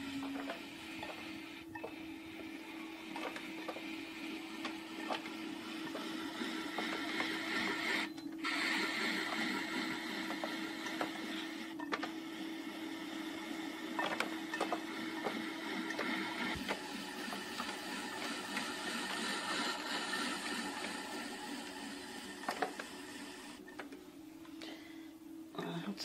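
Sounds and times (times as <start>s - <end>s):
potter's wheel humming: 0.0s - 26.0s.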